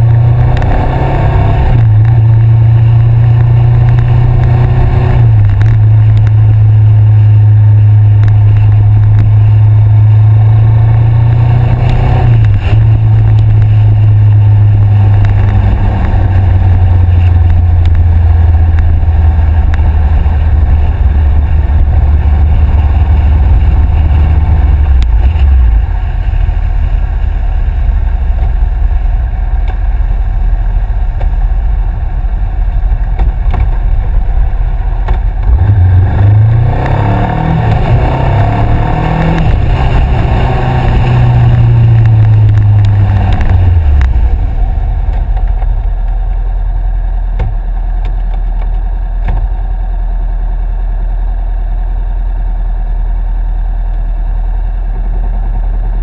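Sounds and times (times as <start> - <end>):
motorcycle engine accelerating and idling: 0.0 - 56.0.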